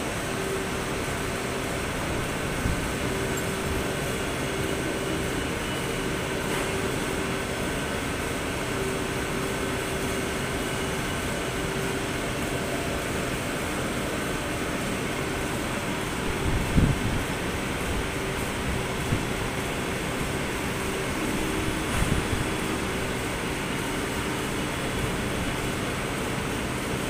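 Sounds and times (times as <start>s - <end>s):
factory machinery hum and hiss: 0.0s - 27.0s
faint constant whine: 0.0s - 27.0s.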